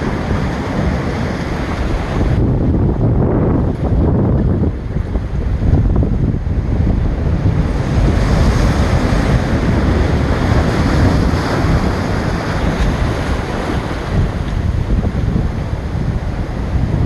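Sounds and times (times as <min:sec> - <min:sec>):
ocean waves breaking on rocks: 0:00.0 - 0:17.0
wind buffeting microphone: 0:00.0 - 0:17.0.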